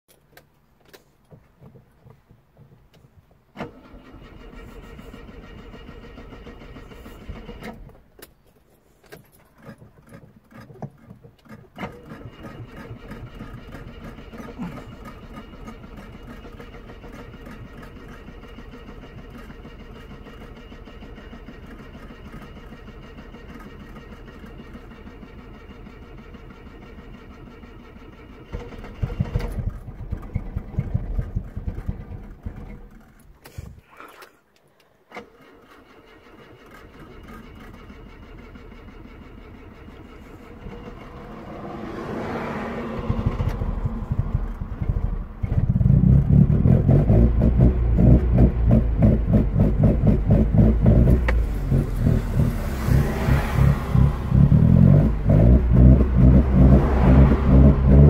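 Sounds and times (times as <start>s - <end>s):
car starter cranking: 0.1s - 57.9s
car engine idling and surging: 0.2s - 34.2s, 35.3s - 58.0s.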